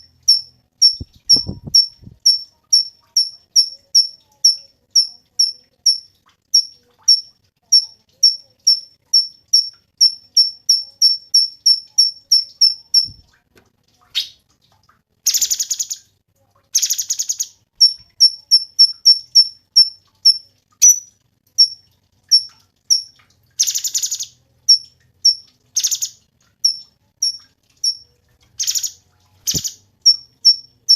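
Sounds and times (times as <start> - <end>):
songbird chirping: 0.0 - 13.2, 16.8 - 28.0, 28.6 - 30.9.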